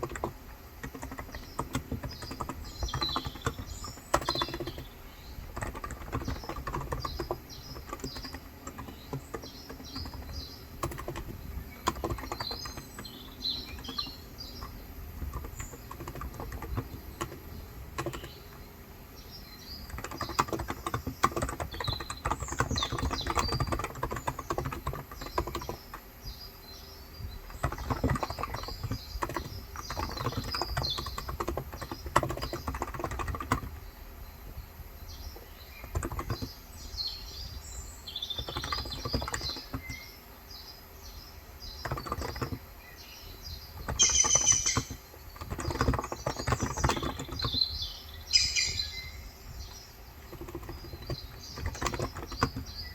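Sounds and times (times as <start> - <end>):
soft keyboard keystrokes: 0.0 - 26.1, 27.2 - 33.8, 35.4 - 36.6, 38.3 - 40.1, 41.7 - 42.7, 43.8 - 47.7, 48.3 - 52.9
birds chirping: 0.0 - 52.9.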